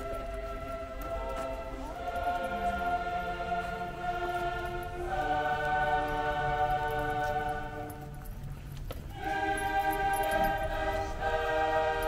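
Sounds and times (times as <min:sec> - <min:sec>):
choir-like held chords: 0:00.0 - 0:08.4, 0:09.0 - 0:12.0.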